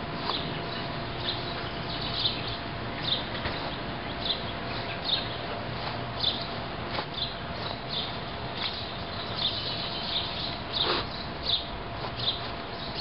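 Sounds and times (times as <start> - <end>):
faint constant hum: 0.0 - 13.0
outdoor background noise: 0.0 - 13.0
bird chirping: 0.2 - 5.6, 6.2 - 13.0.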